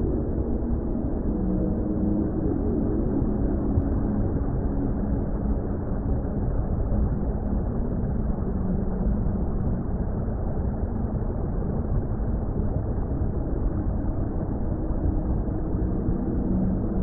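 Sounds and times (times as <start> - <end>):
faint low drone: 0.0 - 17.0
muffled water rumble: 0.0 - 17.0.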